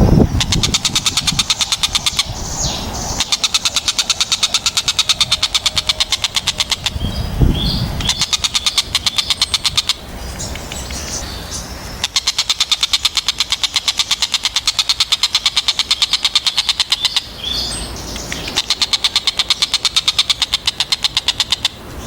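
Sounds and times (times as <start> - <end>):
kingfisher rattling trills: 0.0 - 22.0.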